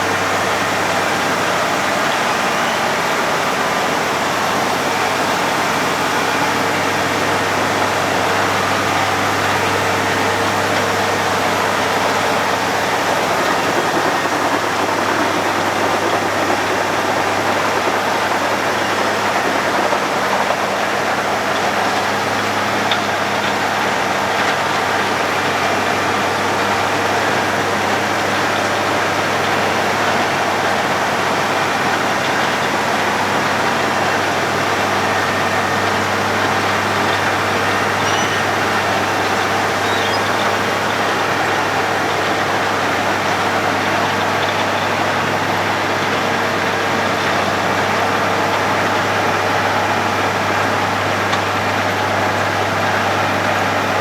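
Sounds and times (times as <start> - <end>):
road milling grinding: 0.0 - 54.0.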